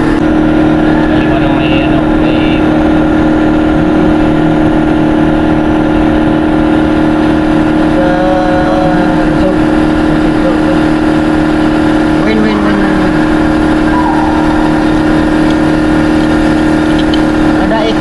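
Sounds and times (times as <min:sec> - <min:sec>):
machine drone: 0:00.0 - 0:18.0.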